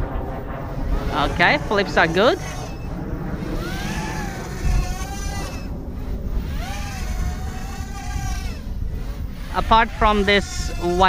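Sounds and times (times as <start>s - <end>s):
quadcopter motors whining: 0.0s - 11.0s
wind rumble on microphone: 0.0s - 11.0s.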